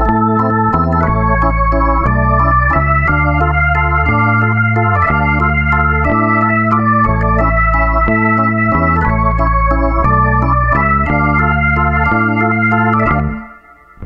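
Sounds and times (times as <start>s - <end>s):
keyboard chords over bass line: 0.0s - 14.0s.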